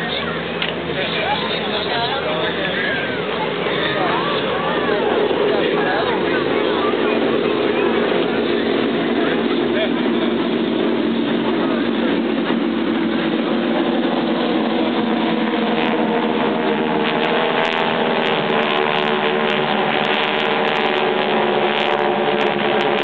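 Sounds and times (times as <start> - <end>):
aircraft engine droning: 0.0 - 23.0.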